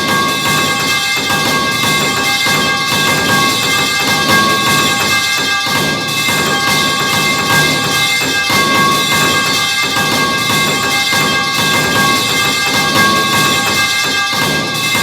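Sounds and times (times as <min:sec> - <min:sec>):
metal pipe clanging repeatedly: 0:00.0 - 0:15.0.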